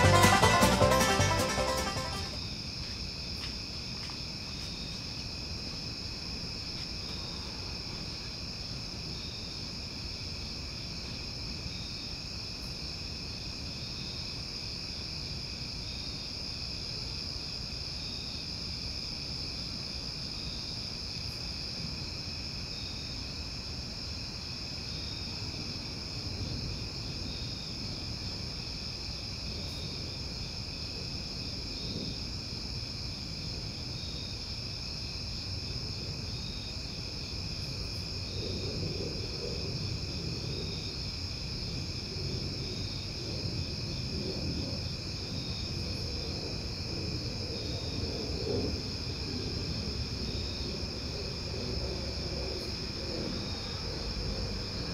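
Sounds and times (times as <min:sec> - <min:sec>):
insects trilling: 0:02.4 - 0:54.9.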